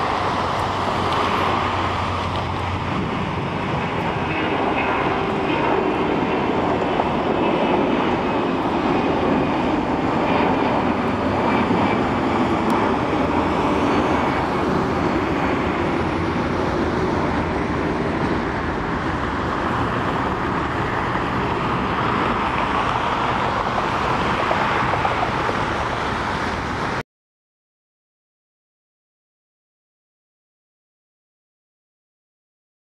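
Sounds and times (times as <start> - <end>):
jet engine noise: 0.0 - 27.0.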